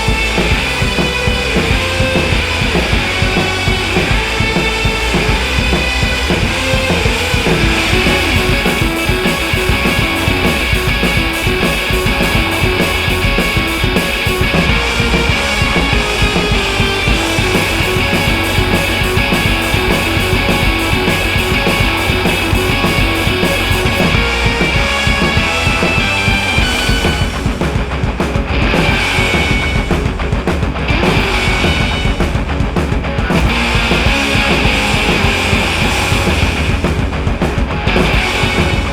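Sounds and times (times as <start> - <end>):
upbeat rock music: 0.0 - 38.9.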